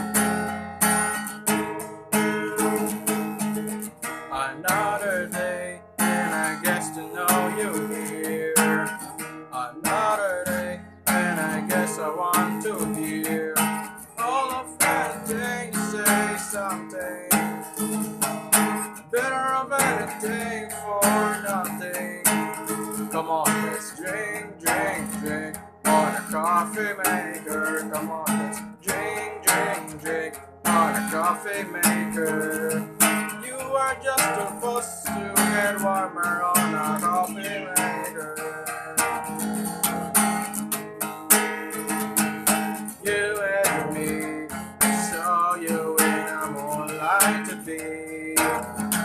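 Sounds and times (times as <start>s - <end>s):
acoustic guitar strumming: 0.0s - 49.0s
person singing: 2.2s - 3.4s, 4.3s - 39.8s, 41.4s - 49.0s.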